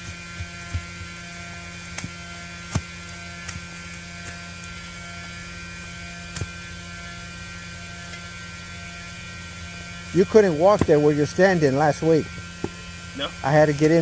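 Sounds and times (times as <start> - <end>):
vacuum pump drone: 0.0 - 14.0.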